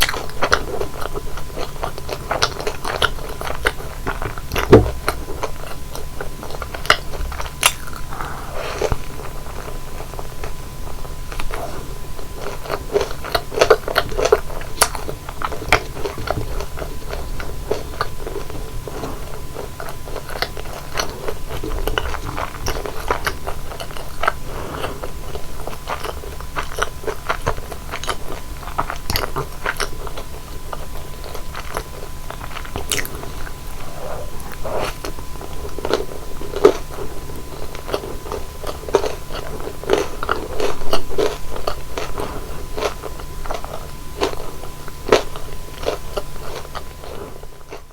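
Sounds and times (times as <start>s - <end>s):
crunching and chewing fried food: 0.0s - 47.9s.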